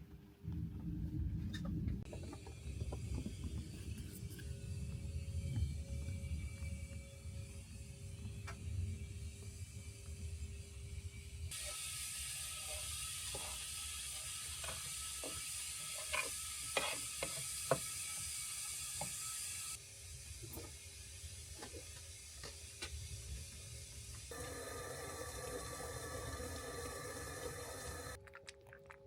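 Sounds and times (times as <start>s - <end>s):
steady hiss: 2.6s - 28.2s.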